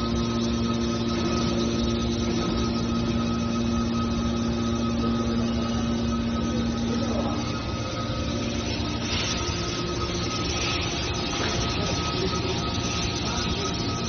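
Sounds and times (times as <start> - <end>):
baler motor and pump hum: 0.0 - 14.0.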